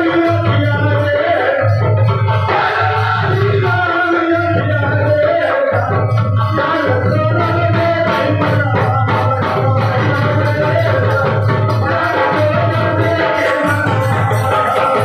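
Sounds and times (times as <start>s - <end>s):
person singing into microphone: 0.0s - 15.0s
shaker percussion: 0.0s - 15.0s.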